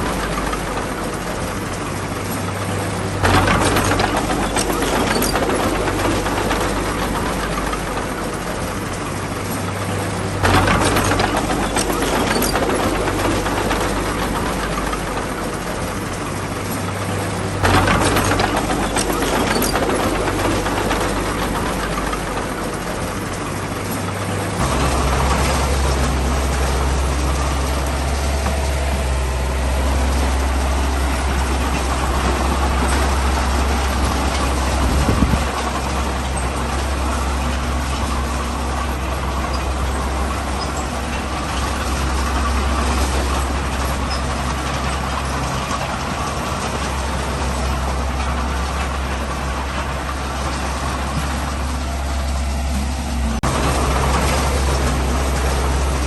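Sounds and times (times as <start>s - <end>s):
bulldozer diesel engine clattering: 0.0s - 56.0s.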